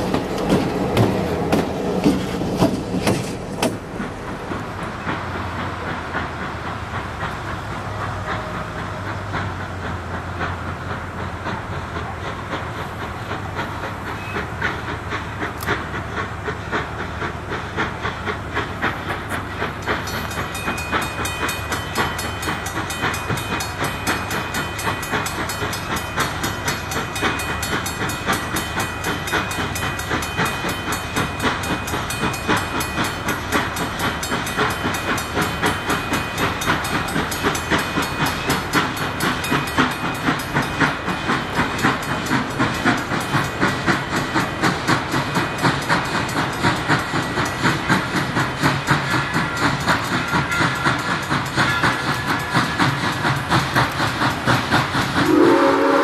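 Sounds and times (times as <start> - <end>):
steady hiss of steam: 0.0 - 56.0
steam locomotive rhythmic beat: 0.0 - 56.0.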